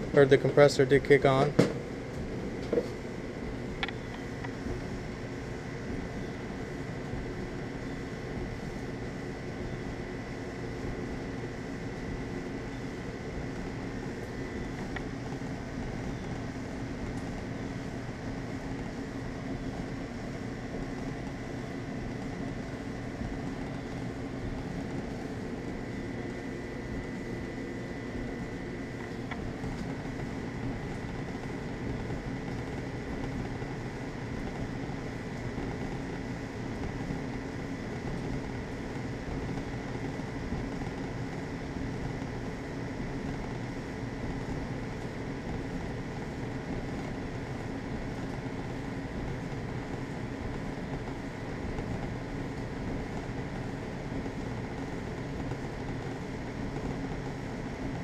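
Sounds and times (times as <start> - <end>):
clothes dryer humming: 0.0 - 58.0
faint high whine: 0.0 - 58.0.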